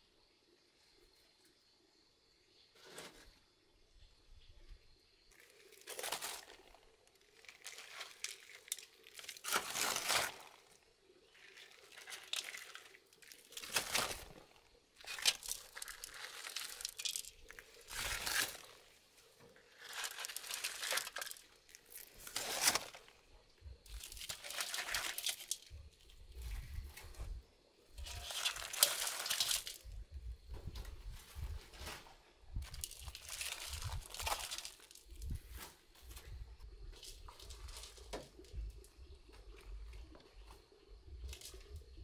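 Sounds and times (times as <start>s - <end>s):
leaves rustling and crinkling: 2.8s - 3.4s, 5.3s - 42.0s.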